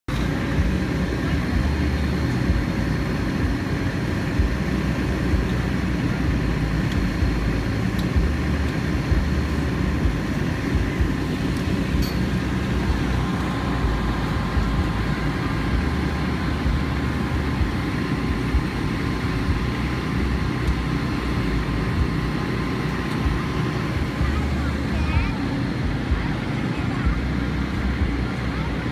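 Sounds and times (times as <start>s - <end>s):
fire truck engine rumble: 0.0s - 28.9s.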